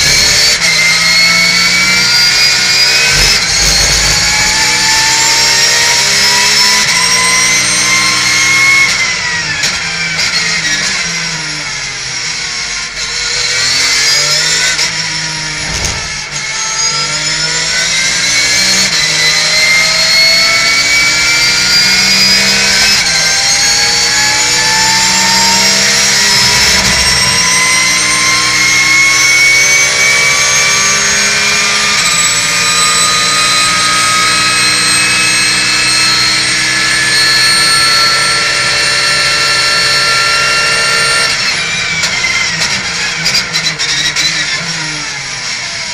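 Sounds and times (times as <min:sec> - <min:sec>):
race car engine from cockpit: 0:00.0 - 0:45.9.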